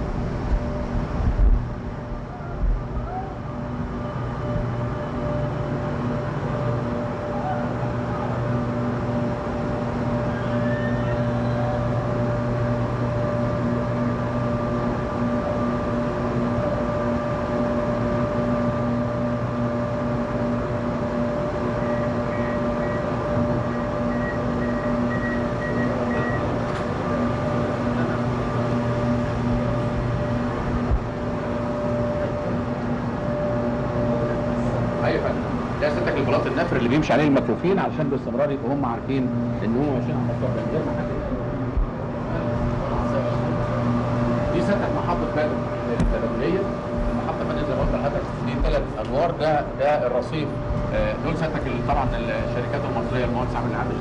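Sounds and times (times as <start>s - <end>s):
train electrical hum: 0.0s - 54.0s.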